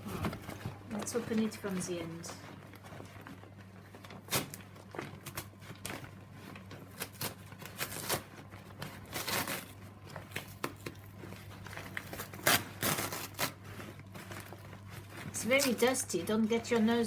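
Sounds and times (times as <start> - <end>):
vacuum dust bag rustling: 0.0 - 17.0.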